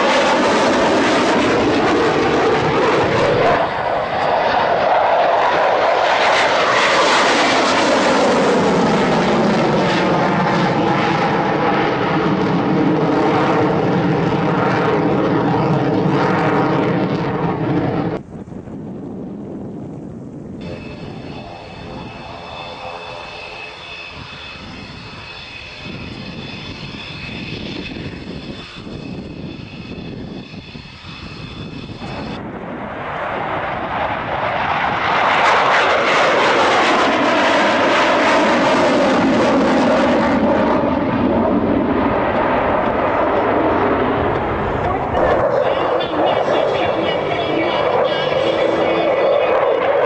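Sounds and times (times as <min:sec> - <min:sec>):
jet afterburner roaring past: 0:00.0 - 0:50.0
jet engine whining: 0:00.0 - 0:50.0.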